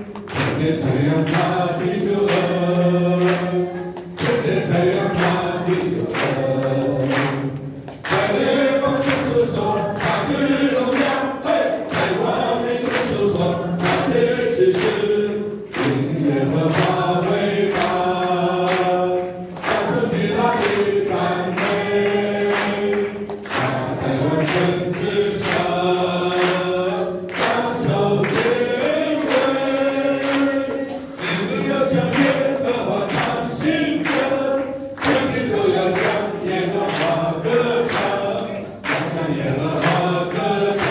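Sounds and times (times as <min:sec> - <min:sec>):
choir singing: 0:00.0 - 0:40.9
sharp regular beat strikes: 0:00.0 - 0:40.9.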